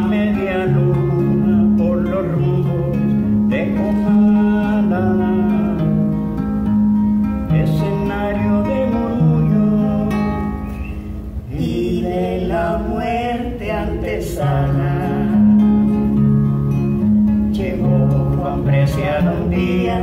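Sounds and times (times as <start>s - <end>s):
classical guitar strumming: 0.0s - 20.0s.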